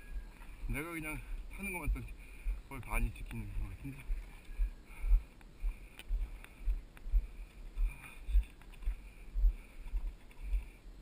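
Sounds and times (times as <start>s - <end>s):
footsteps on dirt trail: 0.0s - 10.8s
faint high-pitched buzz: 0.0s - 11.0s.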